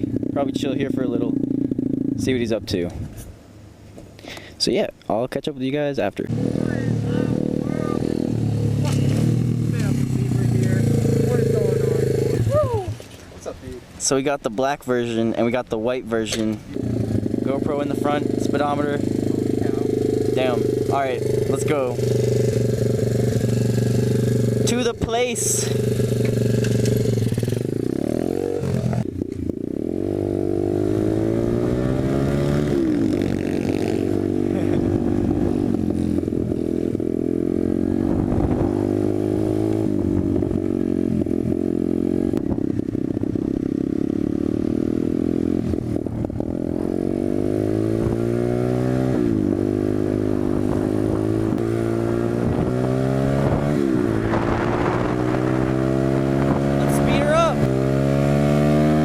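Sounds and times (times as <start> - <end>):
motorbike engine revving: 0.0 - 2.5, 6.2 - 12.8, 16.6 - 59.0.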